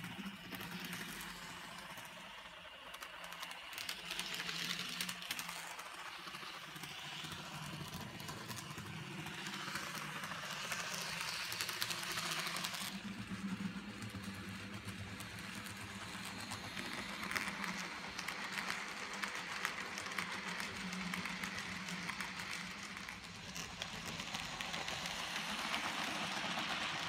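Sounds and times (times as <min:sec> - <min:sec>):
model train wheels clicking: 0:00.0 - 0:27.0.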